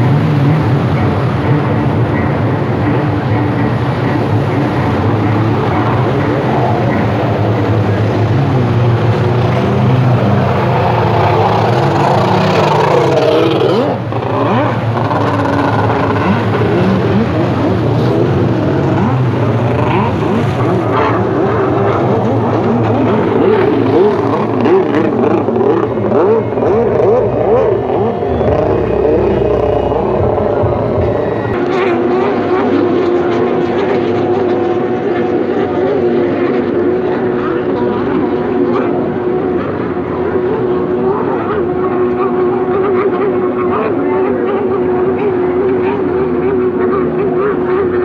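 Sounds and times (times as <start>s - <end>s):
watercraft engines revving: 0.0s - 48.0s.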